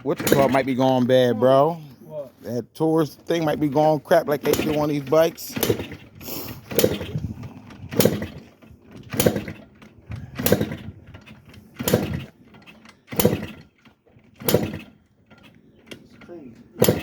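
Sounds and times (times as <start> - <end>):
motorcycle kick-start attempts: 0.0 - 1.6, 3.0 - 17.0.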